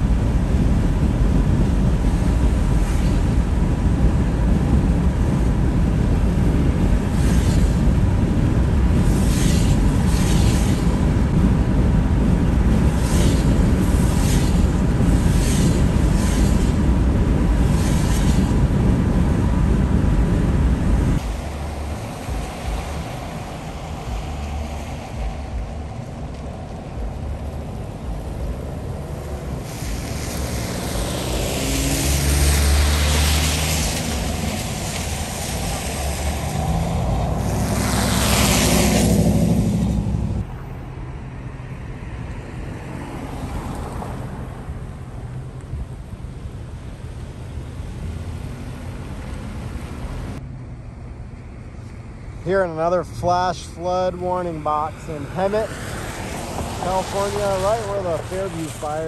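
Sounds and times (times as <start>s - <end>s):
vehicle road and wind noise: 0.0s - 59.0s.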